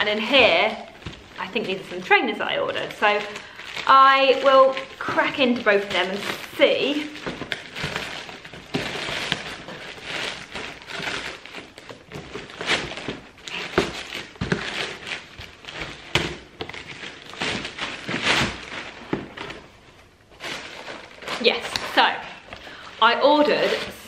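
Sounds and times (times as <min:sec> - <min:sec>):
plastic bag crinkling and tearing: 0:00.0 - 0:24.0.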